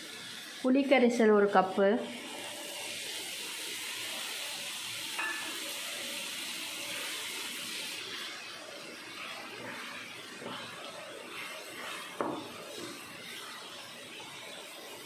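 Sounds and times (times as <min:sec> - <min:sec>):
liquid sizzling in hot pan: 0:00.0 - 0:15.0.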